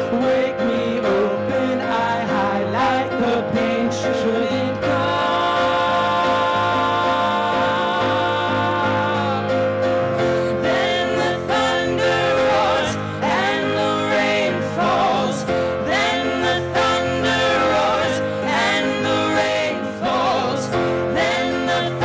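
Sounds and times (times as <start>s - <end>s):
acoustic guitar: 0.0s - 22.0s
grand piano: 0.0s - 22.0s
people singing: 0.0s - 22.0s.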